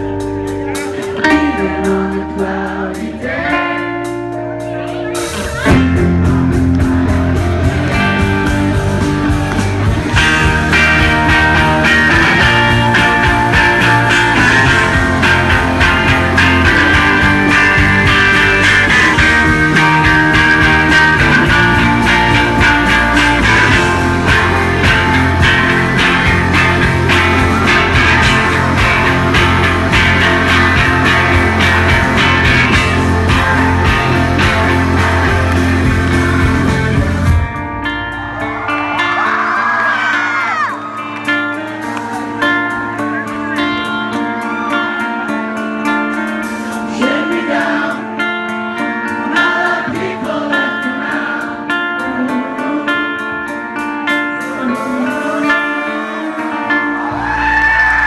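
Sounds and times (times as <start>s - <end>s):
electric guitar: 0.0s - 58.0s
live rock band playing: 0.0s - 58.0s.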